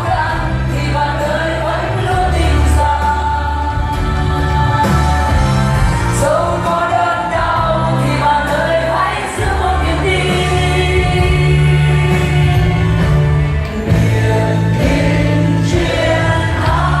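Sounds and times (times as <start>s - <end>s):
sustained bass notes: 0.0s - 17.0s.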